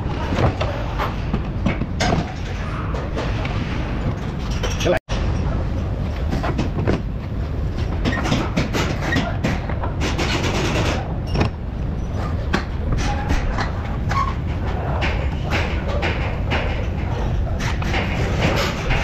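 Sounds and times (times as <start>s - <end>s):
metal knocks clicks and scrapes: 0.1s - 5.6s, 7.7s - 19.0s.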